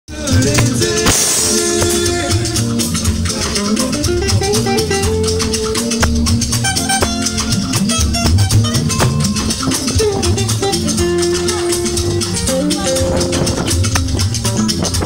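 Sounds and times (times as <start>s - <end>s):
drum kit: 0.1s - 15.0s
electric guitar: 0.1s - 15.0s
high percussion ticking: 0.1s - 15.0s
keyboard: 0.1s - 15.0s
sustained bass line: 0.1s - 15.0s.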